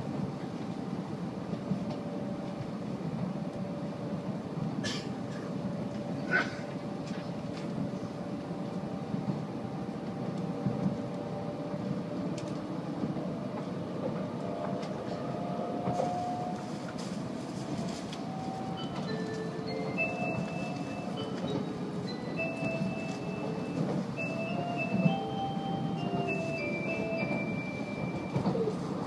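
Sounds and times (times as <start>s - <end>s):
train wheels rumbling: 0.0s - 29.0s.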